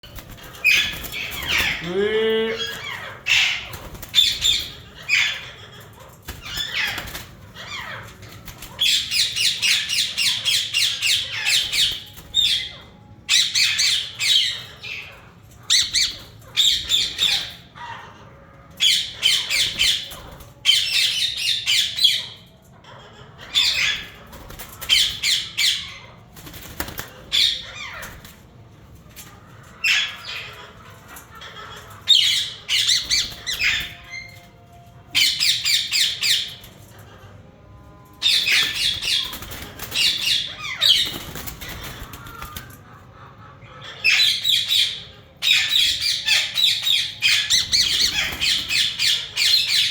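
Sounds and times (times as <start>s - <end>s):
parakeets squawking: 0.0s - 49.9s.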